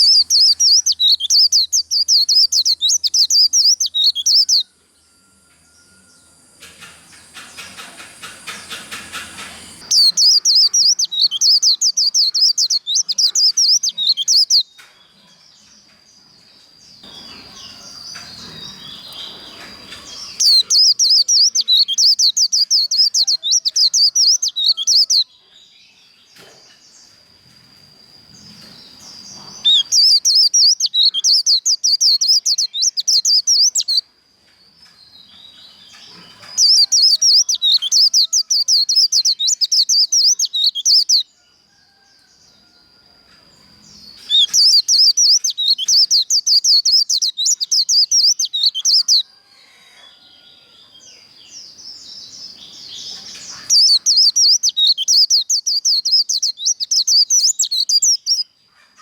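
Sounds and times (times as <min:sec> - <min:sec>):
bird twittering song: 0:00.0 - 0:34.1, 0:34.7 - 0:42.7, 0:43.6 - 0:49.5, 0:50.1 - 0:58.6.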